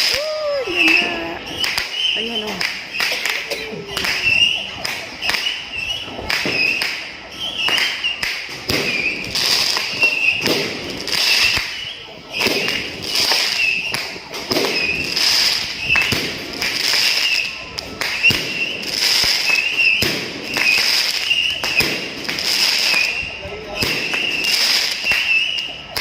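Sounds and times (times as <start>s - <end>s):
fireworks and firecrackers banging: 0.0s - 26.0s.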